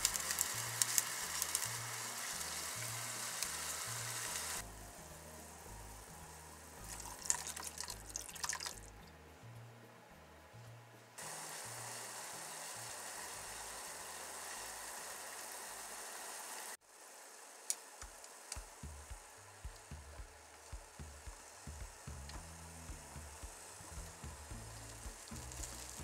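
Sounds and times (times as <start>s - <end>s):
broth simmering hiss: 0.0s - 9.2s, 10.6s - 26.0s.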